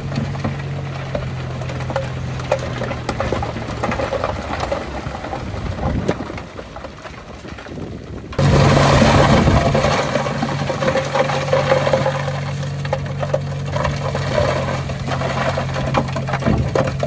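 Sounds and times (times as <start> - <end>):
diesel engine running: 0.0 - 17.0
soil and stones tumbling: 0.0 - 17.0.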